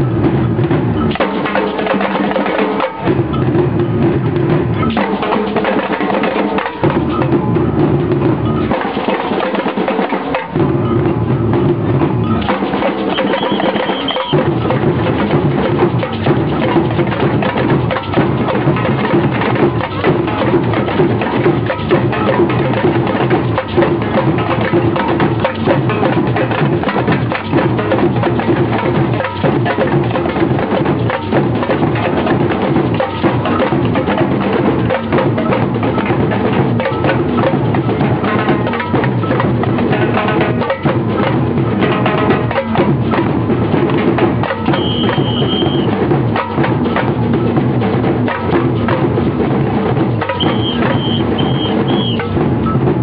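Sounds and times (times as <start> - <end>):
marching band drums: 0.0 - 53.0.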